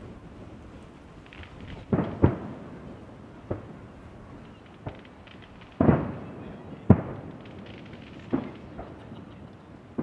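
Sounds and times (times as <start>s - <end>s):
crackling firework tail: 0.0s - 10.0s
firework shells booming: 1.2s - 10.0s.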